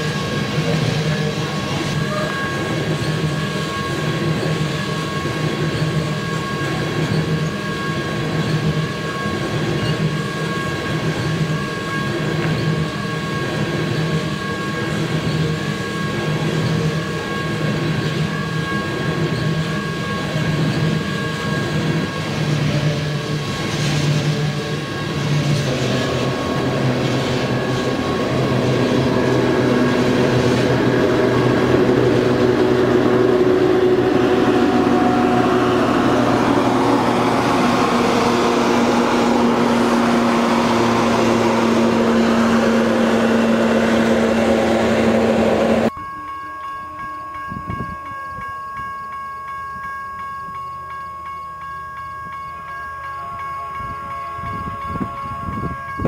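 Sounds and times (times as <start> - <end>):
steel wheels rumbling on rail: 0.0 - 46.0
diesel locomotive engine drone: 0.0 - 46.3, 52.1 - 56.0.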